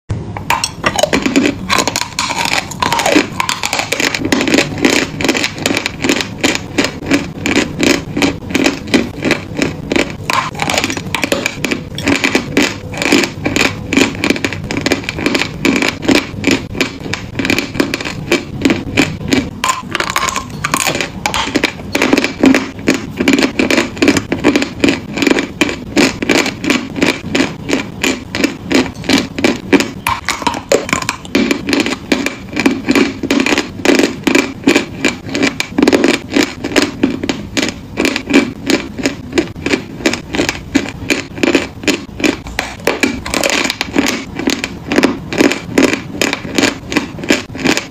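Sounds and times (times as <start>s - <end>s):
chewing crunchy chalk: 0.5s - 47.9s.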